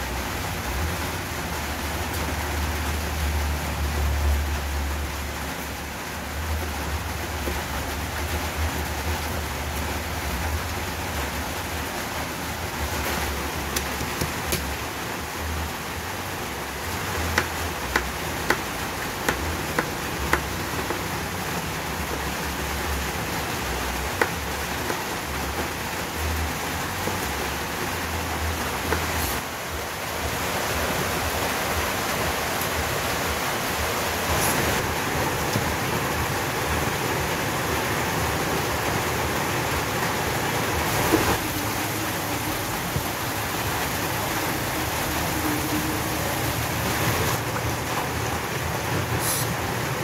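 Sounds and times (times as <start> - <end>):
rain hissing: 0.0 - 50.0.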